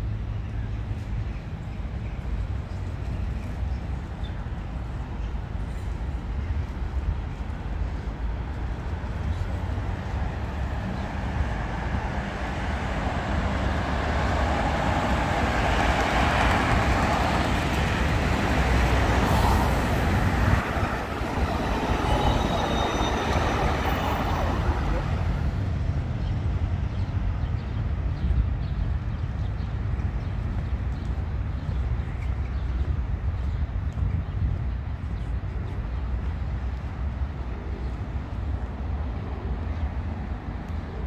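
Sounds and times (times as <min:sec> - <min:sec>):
city street traffic: 0:00.0 - 0:41.0.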